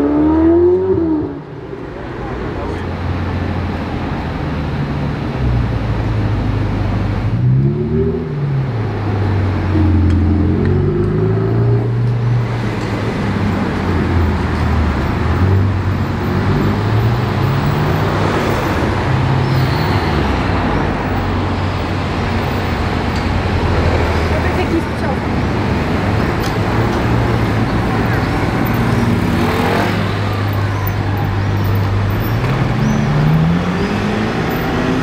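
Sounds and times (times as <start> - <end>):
traffic noise: 0.0 - 35.0.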